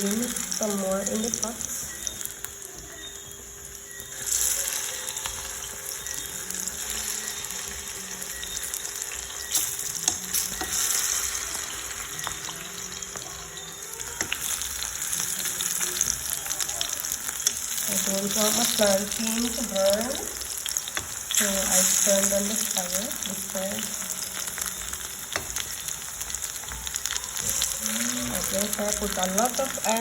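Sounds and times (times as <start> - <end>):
slices frying in hot oil: 0.0 - 30.0.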